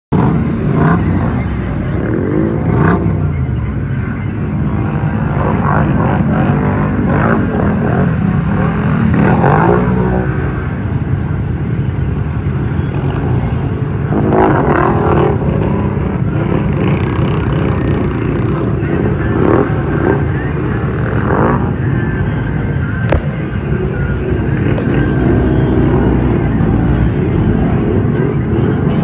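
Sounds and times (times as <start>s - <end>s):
atv engines revving: 0.1s - 29.0s.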